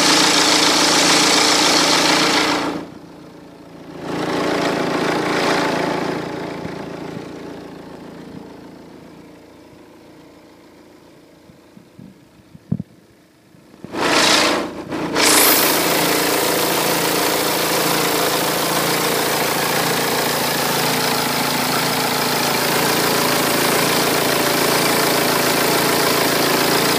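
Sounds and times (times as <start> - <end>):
diesel engine cranking and idling: 0.0 - 12.5, 13.1 - 26.9.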